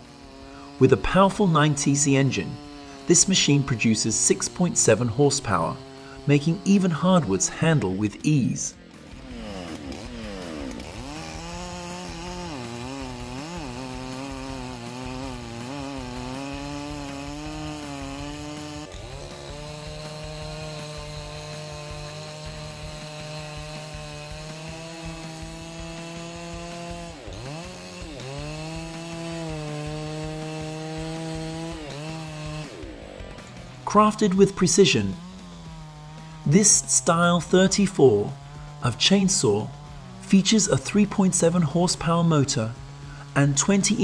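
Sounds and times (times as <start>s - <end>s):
chainsaw cutting log: 0.0s - 44.0s.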